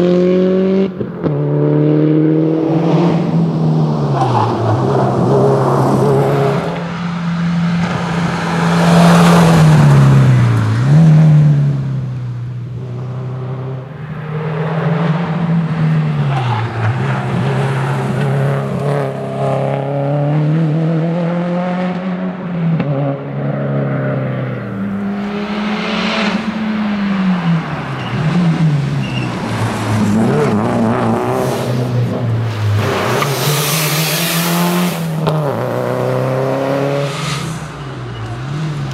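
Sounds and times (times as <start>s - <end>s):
rally car engine revving: 0.0s - 12.0s, 12.8s - 38.9s.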